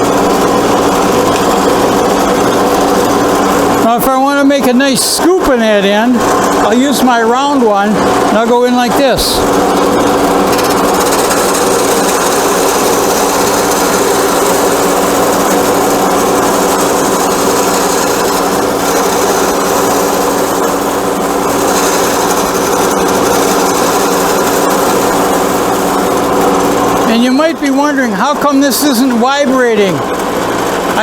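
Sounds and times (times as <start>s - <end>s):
lathe motor hum: 0.0s - 31.0s
turning tool cutting wood: 0.0s - 31.0s.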